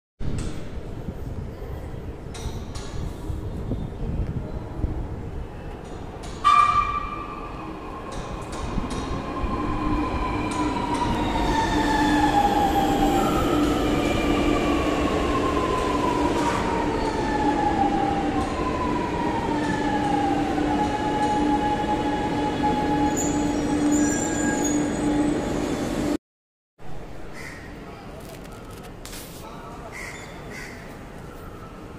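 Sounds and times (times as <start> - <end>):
low hum and rail noise: 0.2 - 26.2.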